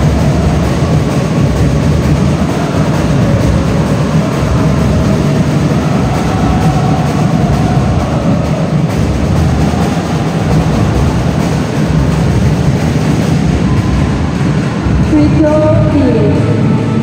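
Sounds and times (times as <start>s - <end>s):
crowd and game noise in hall: 0.0s - 17.0s.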